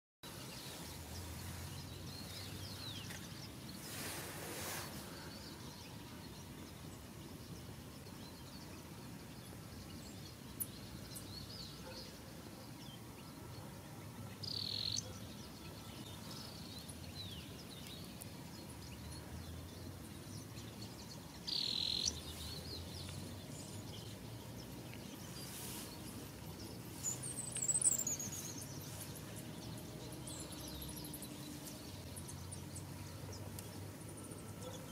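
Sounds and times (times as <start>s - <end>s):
birds chirping: 0.2s - 34.9s
outdoor background hiss: 0.2s - 34.9s.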